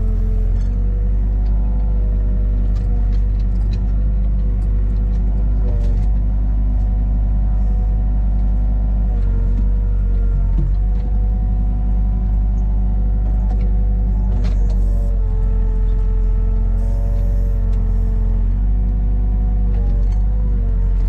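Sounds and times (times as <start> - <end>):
heavy engine running: 0.0 - 21.0.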